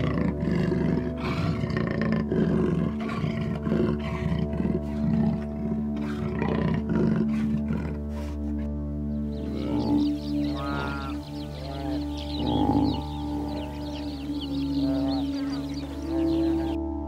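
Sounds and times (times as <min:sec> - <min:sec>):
animal harsh calls: 0:00.0 - 0:08.5, 0:09.3 - 0:16.8
background music: 0:00.0 - 0:17.0.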